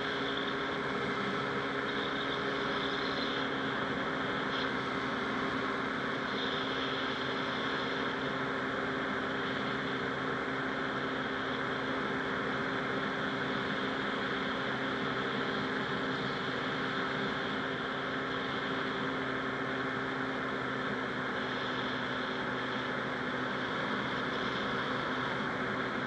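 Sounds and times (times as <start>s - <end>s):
engine and propeller drone: 0.0s - 26.0s.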